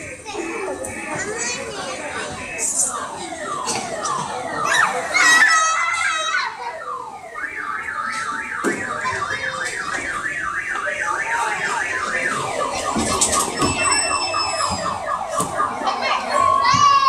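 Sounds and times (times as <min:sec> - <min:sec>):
electronic siren-like warble: 0:02.1 - 0:16.6.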